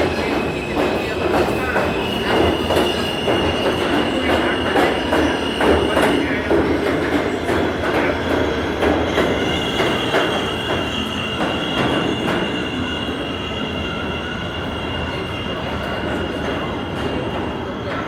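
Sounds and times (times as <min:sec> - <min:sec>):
train rumble: 0:00.0 - 0:18.0
train wheels squealing on rails: 0:00.0 - 0:18.0.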